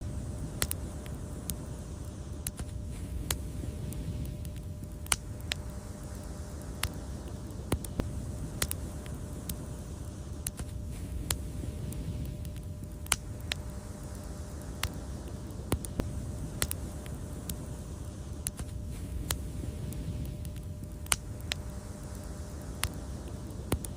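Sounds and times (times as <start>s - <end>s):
wood fire crackling and popping: 0.0s - 23.9s.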